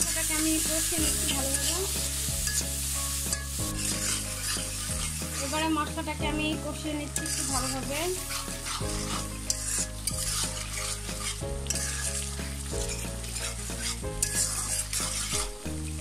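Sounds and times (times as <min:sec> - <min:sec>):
background music: 0:00.0 - 0:16.0
paste sizzling in hot oil: 0:00.0 - 0:16.0
spatula scraping a pan: 0:00.0 - 0:16.0.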